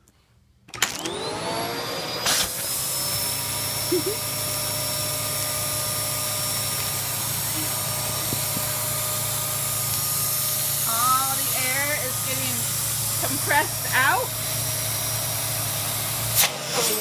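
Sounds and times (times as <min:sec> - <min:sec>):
vacuum cleaner motor whine: 0:00.7 - 0:17.0.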